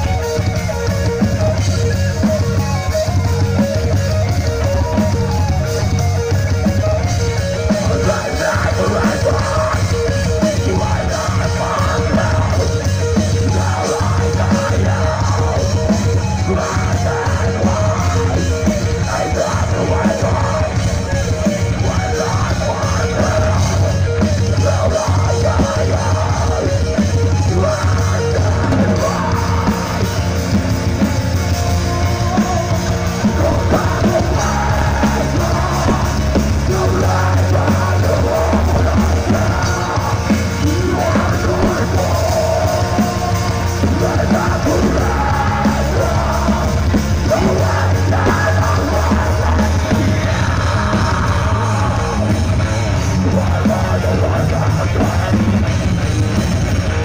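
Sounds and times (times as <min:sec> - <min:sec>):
person singing: 0:00.0 - 0:56.0
bass guitar: 0:00.0 - 0:57.0
drums: 0:00.0 - 0:57.0
electric guitars: 0:00.0 - 0:57.0.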